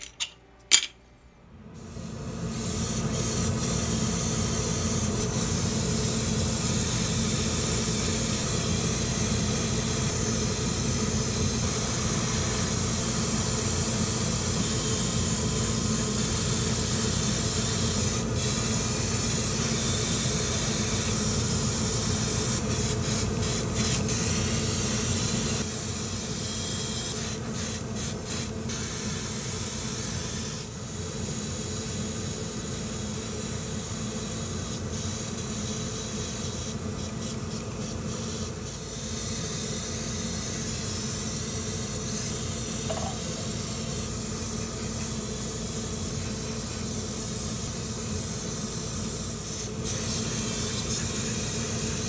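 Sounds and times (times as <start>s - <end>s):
airbrush spraying hiss: 1.8s - 52.0s.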